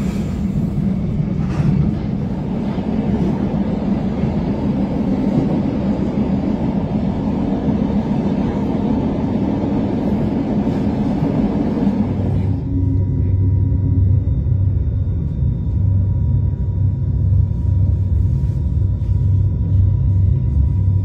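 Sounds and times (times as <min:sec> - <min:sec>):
train running on track: 0:00.0 - 0:21.0.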